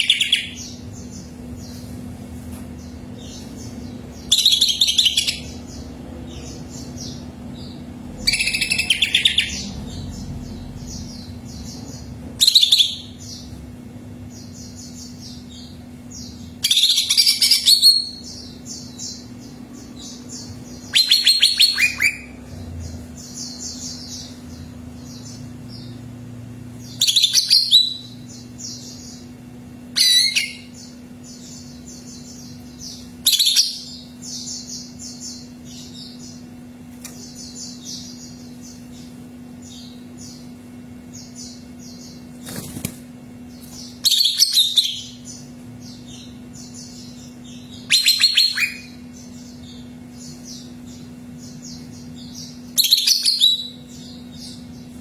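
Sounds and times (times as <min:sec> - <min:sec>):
bird trilling song: 0:00.0 - 0:01.9, 0:02.8 - 0:13.6, 0:14.2 - 0:26.1, 0:26.7 - 0:55.0
steady low hum: 0:00.0 - 0:55.0.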